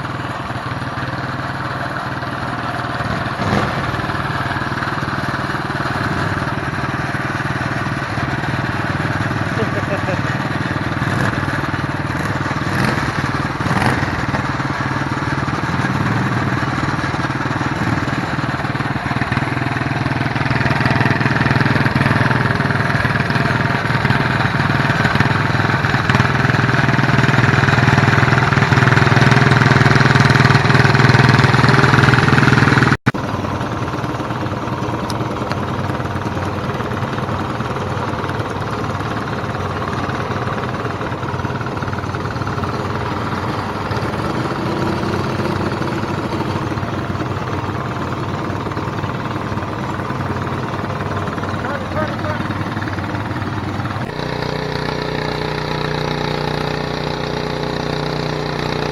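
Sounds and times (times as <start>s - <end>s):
garden tractor engine at high revs: 0.0s - 58.9s
quieter steady engine: 0.0s - 58.9s.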